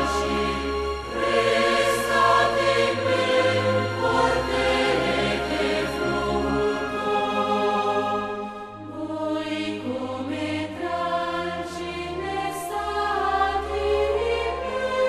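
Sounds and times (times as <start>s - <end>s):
low sustained bass: 0.0s - 15.0s
slow choral singing: 0.0s - 15.0s.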